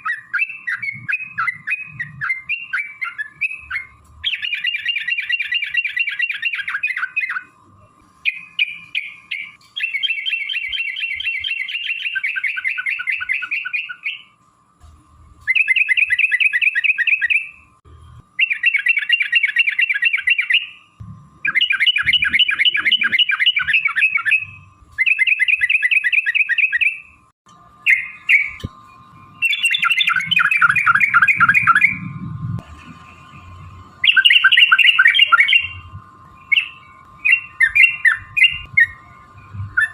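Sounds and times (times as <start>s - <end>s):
bird singing rattling trills: 0.0s - 7.6s, 8.2s - 14.4s, 15.5s - 17.7s, 18.4s - 27.2s, 27.8s - 32.2s, 33.0s - 39.9s.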